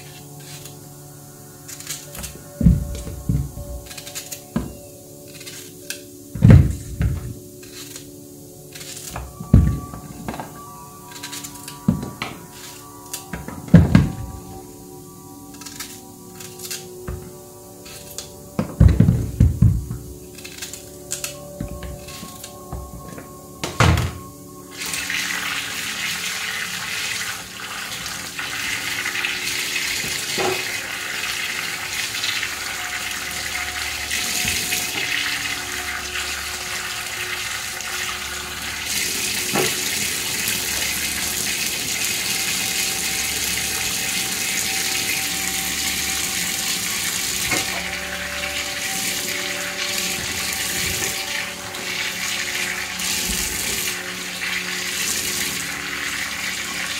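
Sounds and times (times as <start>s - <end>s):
tap water running into sink: 1.7s - 4.8s, 5.4s - 8.1s, 8.8s - 14.6s, 15.6s - 56.9s.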